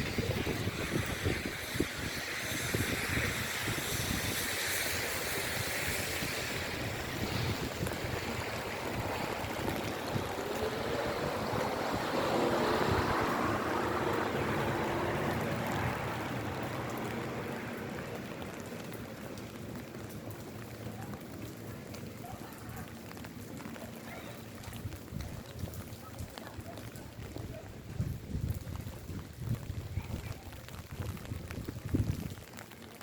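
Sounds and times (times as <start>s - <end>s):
steady rain falling: 0.0s - 33.0s
vehicle passing on wet road: 0.0s - 33.0s.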